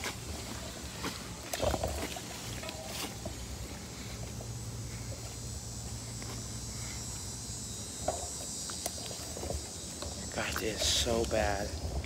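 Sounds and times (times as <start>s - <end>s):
insects droning: 0.0s - 12.0s
low steady rumble: 0.0s - 12.0s.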